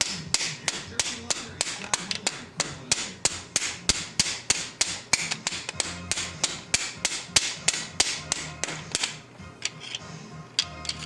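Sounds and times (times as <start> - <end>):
hammer blows on metal: 0.0 - 9.2.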